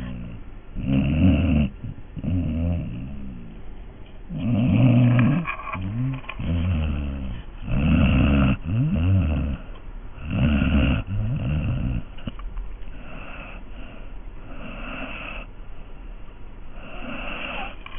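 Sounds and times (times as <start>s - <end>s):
pet snoring: 0.0s - 3.6s, 4.3s - 15.5s, 16.7s - 17.9s.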